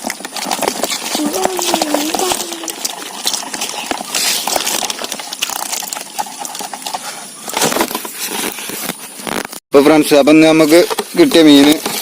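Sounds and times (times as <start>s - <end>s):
plastic bottle trap rustling: 0.0s - 9.6s, 10.5s - 12.0s.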